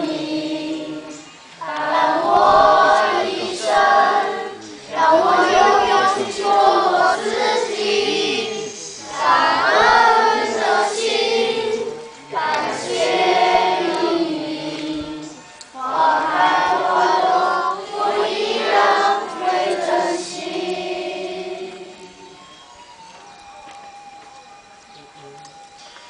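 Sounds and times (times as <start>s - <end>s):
children singing: 0.0s - 22.4s.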